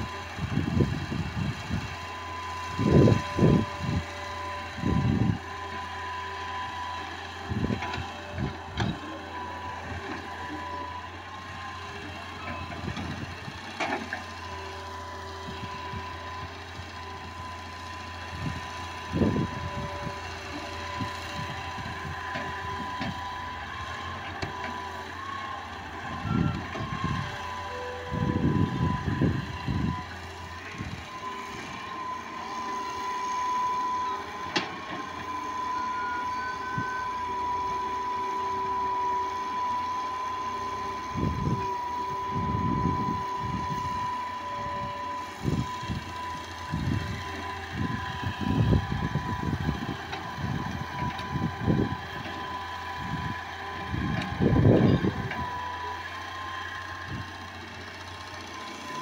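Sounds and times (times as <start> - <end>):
excavator engine hum with whine: 0.0 - 59.0.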